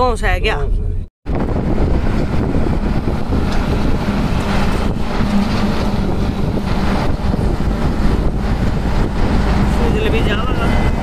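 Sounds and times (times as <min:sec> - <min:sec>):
car engine hum: 0:00.0 - 0:11.0
wind and road noise: 0:00.0 - 0:11.0.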